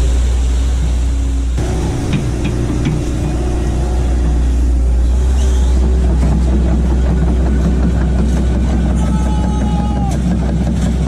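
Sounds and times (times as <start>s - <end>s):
excavator diesel engine humming: 0.0s - 11.0s.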